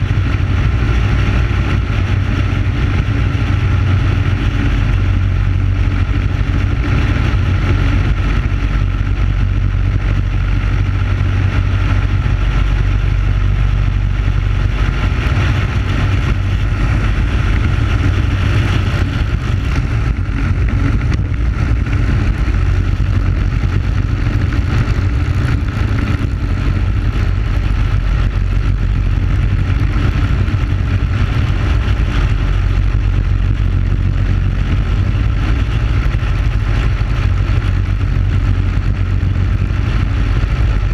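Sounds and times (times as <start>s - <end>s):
kart engine at high revs: 0.0s - 40.9s
wind rumble on microphone: 0.0s - 40.9s.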